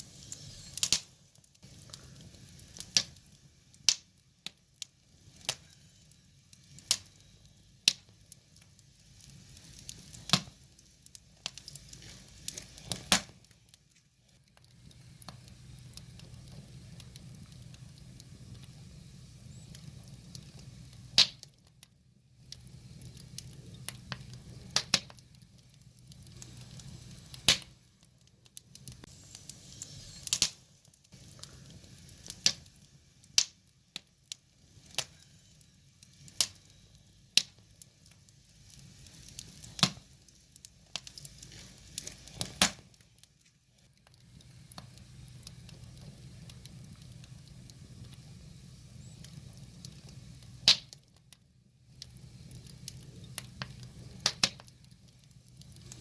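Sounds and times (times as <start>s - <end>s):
steady flame rush: 0.0s - 21.6s, 22.3s - 51.0s, 51.8s - 56.0s
firewood crackling: 0.0s - 56.0s
sharp pops of burning logs: 0.0s - 56.0s.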